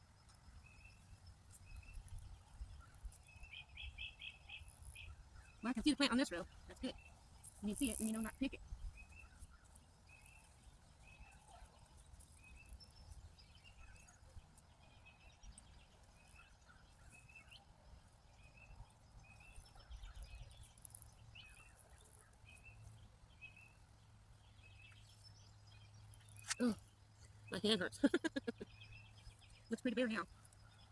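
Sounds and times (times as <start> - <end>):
faint yard ambience: 0.0 - 30.9.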